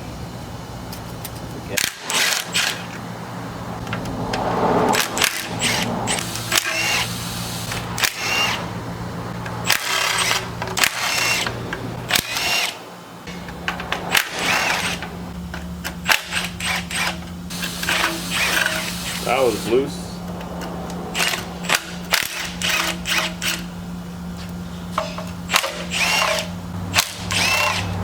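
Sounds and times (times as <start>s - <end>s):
steady low hum: 0.0s - 28.0s
power tool whirring: 1.8s - 23.9s, 24.9s - 28.0s.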